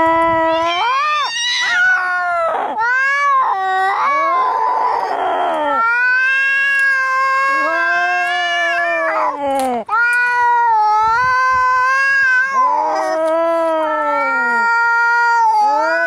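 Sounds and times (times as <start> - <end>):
cats yowling: 0.0 - 16.0.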